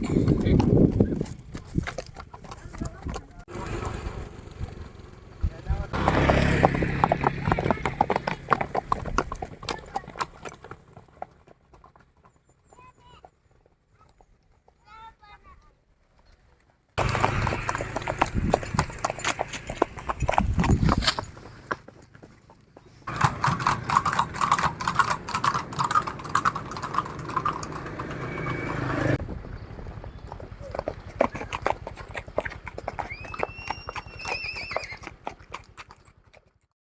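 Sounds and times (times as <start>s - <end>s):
horse hooves clip-clopping: 0.0s - 36.7s.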